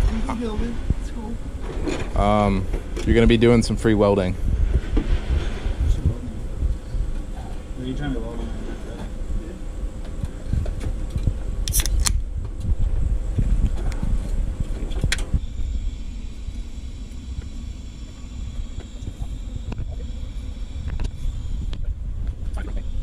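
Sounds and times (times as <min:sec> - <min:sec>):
welding arc buzzing hiss: 0:00.0 - 0:23.0.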